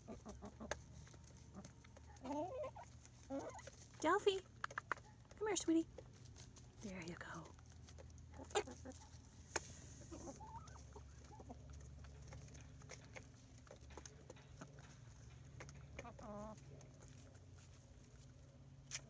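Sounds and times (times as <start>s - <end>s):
chickens clucking: 0.0s - 19.0s
pecking clicks on ground: 0.2s - 9.7s, 10.8s - 19.0s.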